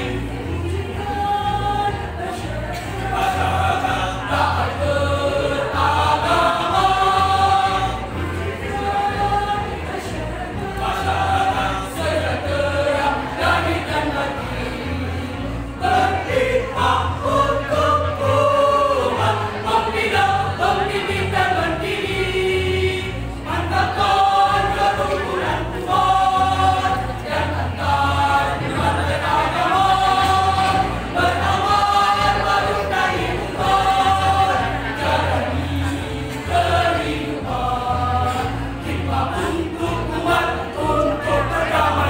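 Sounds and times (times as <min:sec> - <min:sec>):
mixed choir singing a march: 0:00.0 - 0:42.0.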